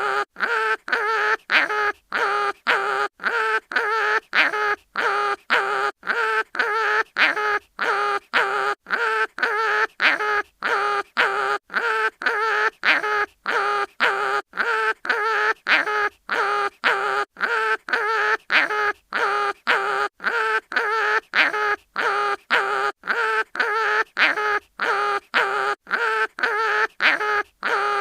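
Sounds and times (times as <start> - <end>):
cartoon animal crying wail: 0.0 - 28.0.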